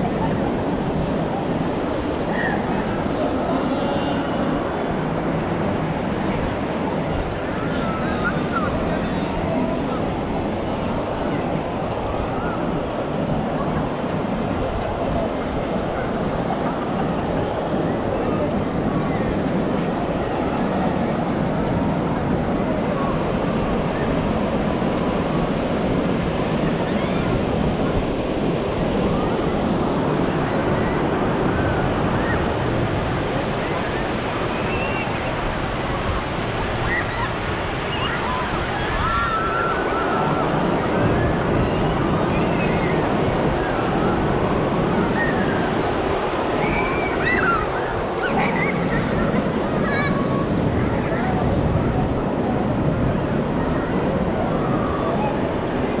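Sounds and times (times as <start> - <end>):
ocean surf washing ashore: 0.0 - 56.0
waves breaking on shore: 0.0 - 56.0.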